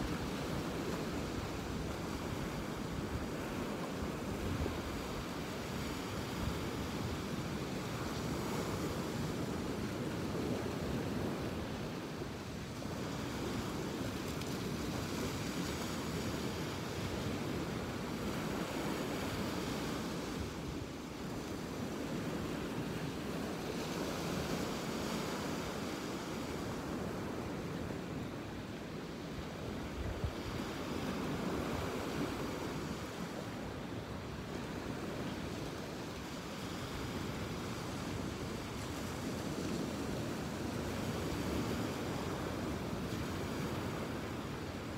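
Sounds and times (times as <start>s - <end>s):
ocean waves washing onto beach: 0.0s - 44.9s.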